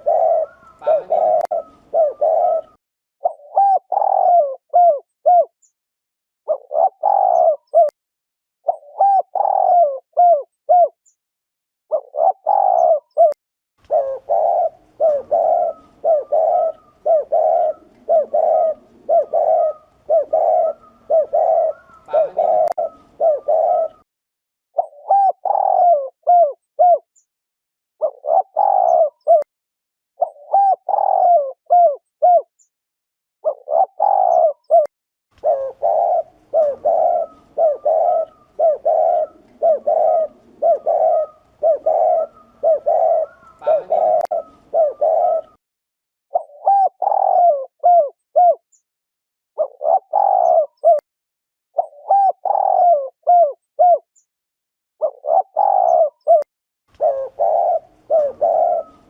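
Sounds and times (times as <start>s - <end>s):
dove cooing: 0.0s - 5.5s, 6.5s - 7.9s, 8.7s - 11.0s, 11.9s - 24.0s, 24.8s - 27.0s, 28.0s - 29.5s, 30.2s - 32.5s, 33.4s - 45.6s, 46.3s - 48.6s, 49.6s - 51.0s, 51.8s - 54.1s, 55.0s - 59.0s.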